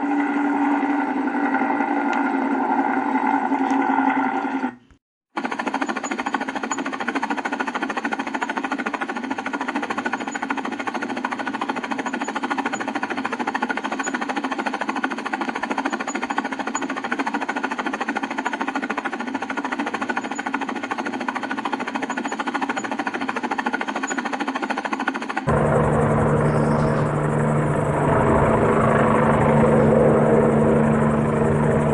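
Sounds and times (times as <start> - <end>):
helicopter rotor chopping: 0.0 - 31.9.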